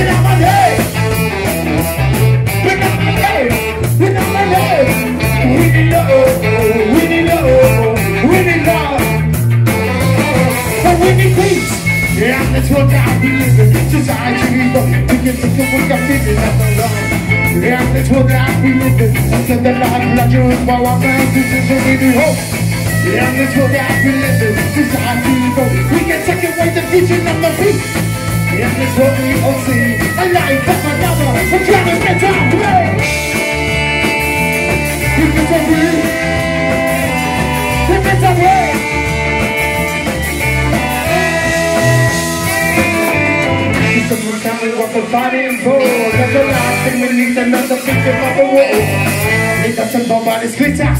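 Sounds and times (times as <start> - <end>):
person singing: 0.0 - 1.0, 2.6 - 50.9
live band with horns: 0.0 - 50.9.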